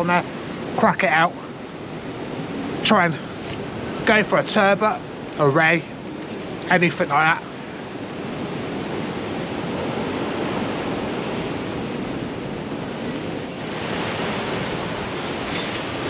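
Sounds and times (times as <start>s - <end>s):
breaking surf: 0.0s - 16.0s
strong wind: 0.0s - 16.0s
wind buffeting microphone: 0.0s - 16.0s.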